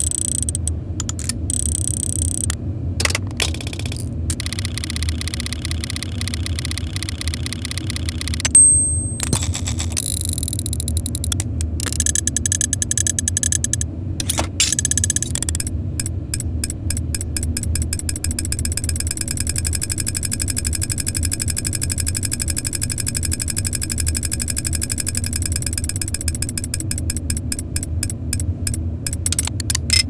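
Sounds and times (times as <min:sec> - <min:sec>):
mechanism whirring: 0:00.0 - 0:30.0
small gears clicking and ratcheting: 0:00.0 - 0:30.0.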